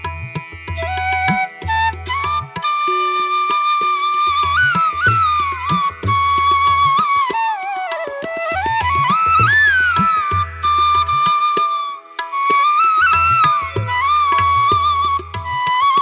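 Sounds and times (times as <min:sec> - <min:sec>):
hand drum percussion: 0:00.0 - 0:02.8, 0:04.3 - 0:12.4, 0:13.0 - 0:16.0
flute melody: 0:00.8 - 0:16.0.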